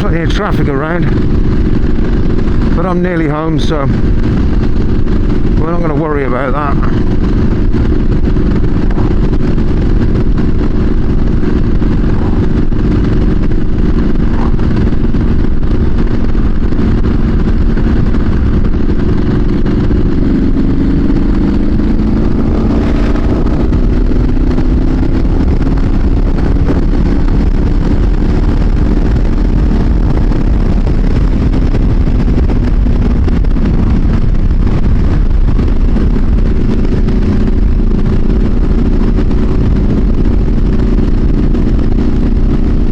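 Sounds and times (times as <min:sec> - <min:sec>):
motorcycle engine running: 0:00.0 - 0:42.9
wind rumble on microphone: 0:00.0 - 0:42.9.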